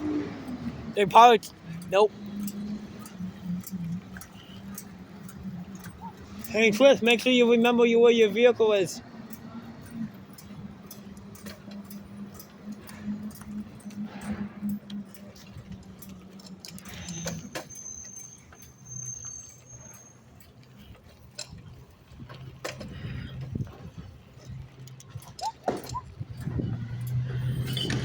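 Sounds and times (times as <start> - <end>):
clicks and rattles: 0.5 - 28.0.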